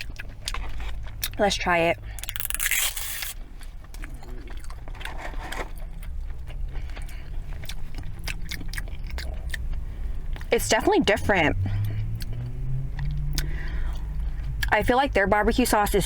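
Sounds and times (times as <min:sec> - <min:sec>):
wet chewing with mouth clicks: 0:00.0 - 0:10.6, 0:11.6 - 0:14.8.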